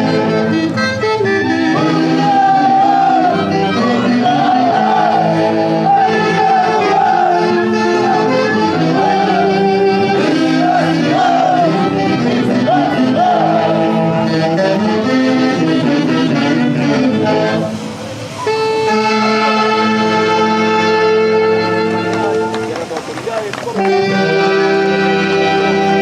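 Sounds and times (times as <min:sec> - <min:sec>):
folk orchestra playing dance tune: 0:00.0 - 0:26.0.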